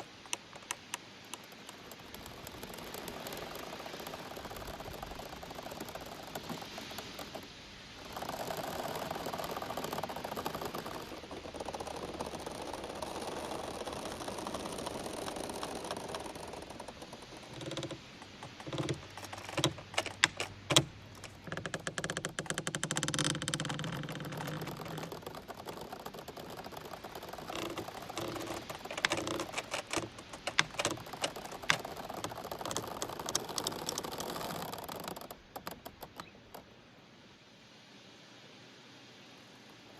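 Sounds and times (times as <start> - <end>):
quick clicks and squeaks: 0.0 - 36.7
bamboo stems creaking and knocking: 0.0 - 36.8
leaves rustling: 0.0 - 39.9.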